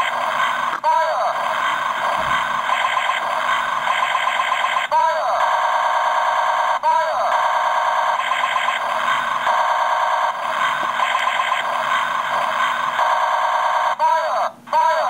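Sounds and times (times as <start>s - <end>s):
toy gun warbling electronic tone: 0.0s - 15.0s.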